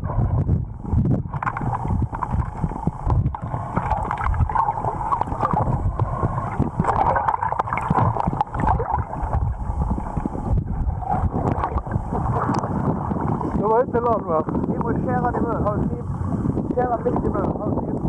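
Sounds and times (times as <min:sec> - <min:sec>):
muffled underwater water rushing: 0:00.0 - 0:18.0.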